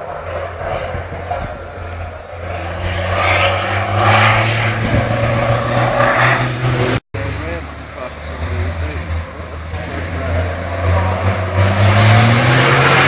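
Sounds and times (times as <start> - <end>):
race truck engine under power: 0.0 - 13.0.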